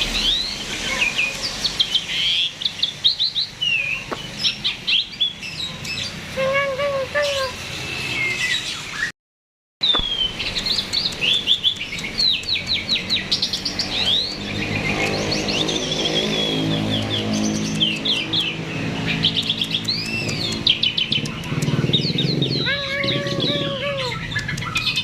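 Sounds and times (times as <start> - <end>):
starling singing: 0.0 - 9.1, 9.8 - 25.0.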